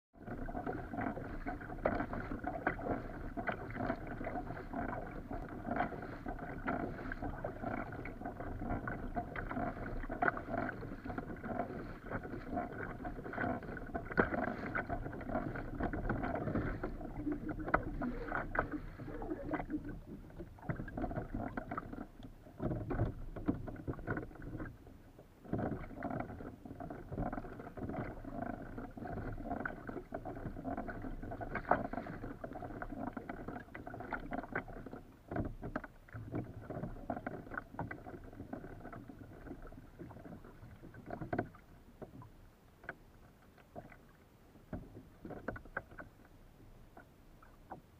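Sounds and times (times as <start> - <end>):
water splashing against kayak hull: 0.2 - 47.9.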